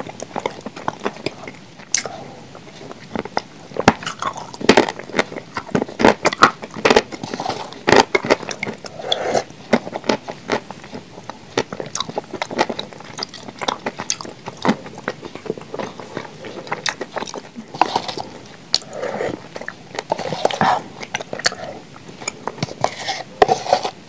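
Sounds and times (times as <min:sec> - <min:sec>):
crunchy chewing of clay: 0:00.0 - 0:24.0.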